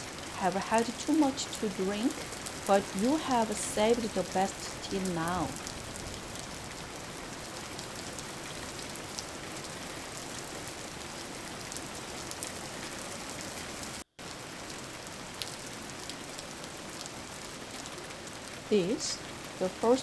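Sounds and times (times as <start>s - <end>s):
raindrop ticks: 0.0s - 13.6s, 14.6s - 20.0s
steady rain falling: 0.0s - 20.0s.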